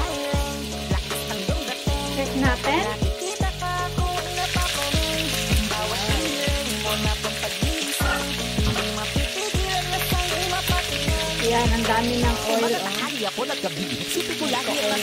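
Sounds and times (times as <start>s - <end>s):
background music with steady beat: 0.0s - 15.0s
chicken sizzling in skillet: 0.0s - 15.0s.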